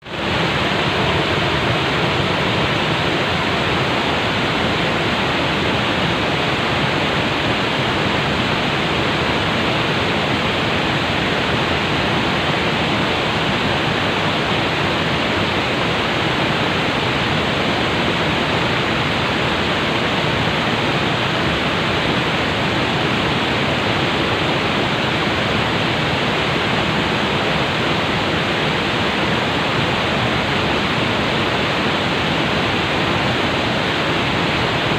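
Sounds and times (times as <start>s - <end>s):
water flowing steadily: 0.0s - 34.9s.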